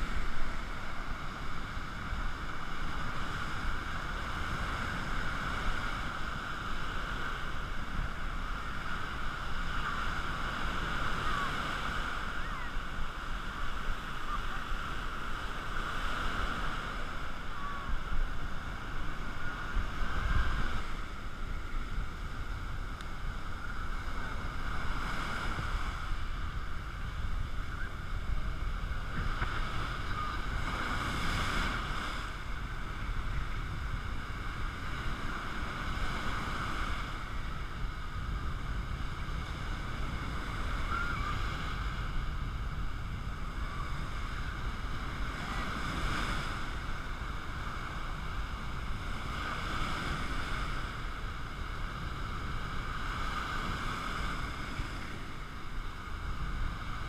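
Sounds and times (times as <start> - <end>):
sea waves breaking: 0.0 - 57.0
wind rumble on microphone: 0.0 - 57.0.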